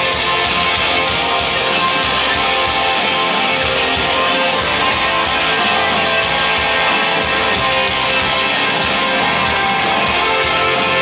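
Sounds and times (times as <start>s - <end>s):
rock band playing live: 0.0s - 11.0s.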